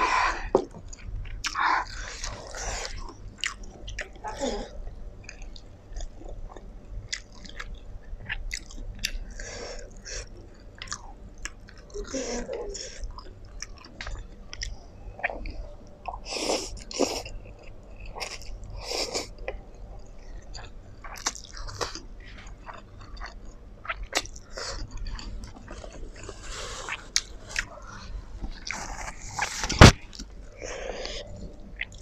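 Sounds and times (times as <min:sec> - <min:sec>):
chewing noodles: 0:00.1 - 0:32.0.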